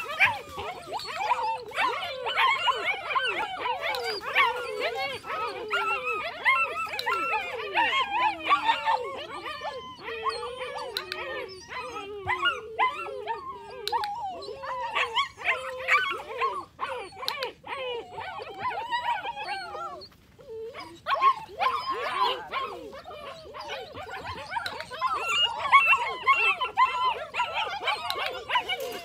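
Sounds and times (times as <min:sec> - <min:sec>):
puppies whining and howling: 0:00.0 - 0:29.0.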